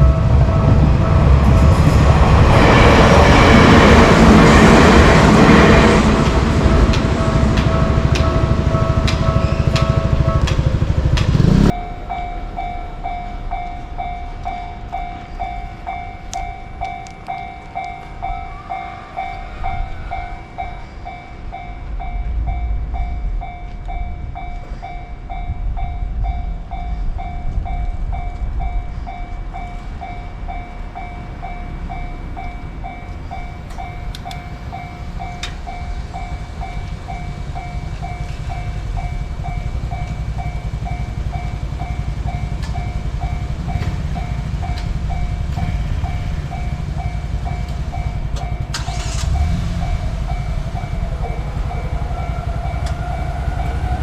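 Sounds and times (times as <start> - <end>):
level-crossing warning bell: 0.0 - 54.0
passing train rumble: 0.0 - 54.0.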